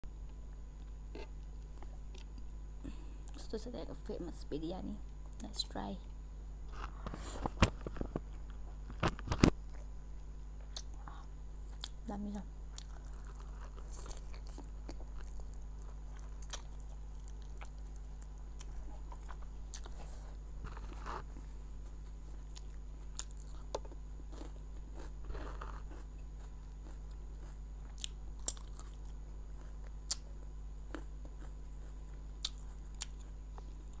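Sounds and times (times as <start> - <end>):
steady low hum: 0.0 - 34.0
person chewing food: 0.3 - 3.4, 6.7 - 12.0, 12.6 - 34.0.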